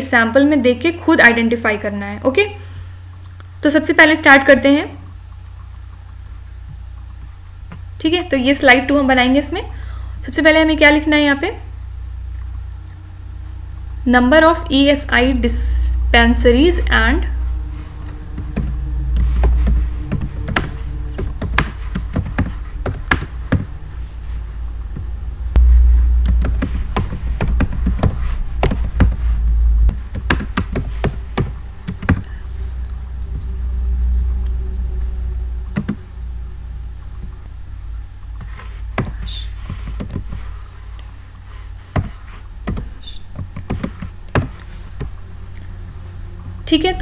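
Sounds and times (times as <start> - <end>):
low rumble: 3.8 - 43.0, 44.1 - 47.0.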